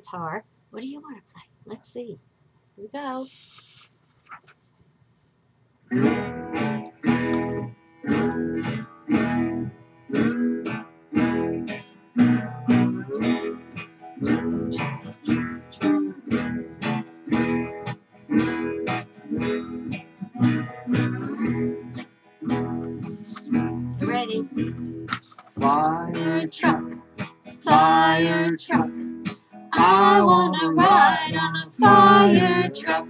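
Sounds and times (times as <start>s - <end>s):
acoustic guitar strumming: 5.9s - 33.0s.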